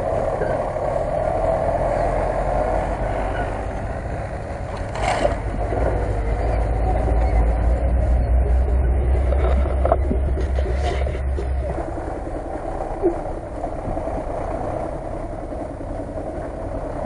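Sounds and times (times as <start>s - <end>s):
off-road vehicle engines rumbling: 0.0s - 17.0s.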